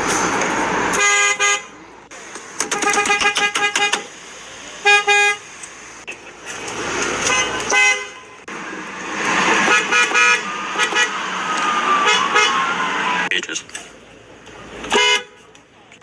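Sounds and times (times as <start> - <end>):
car horn honking: 0.0 - 15.6.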